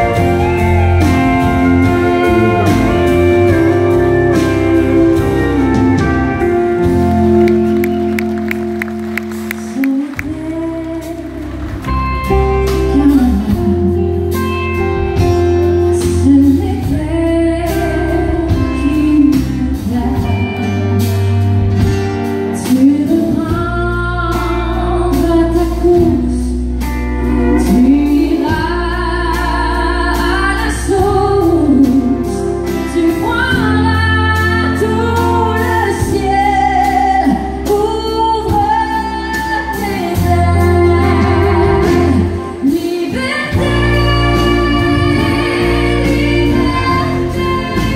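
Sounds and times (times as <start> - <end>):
woman singing: 0.0 - 21.4, 22.5 - 47.9
country band playing: 0.0 - 47.9.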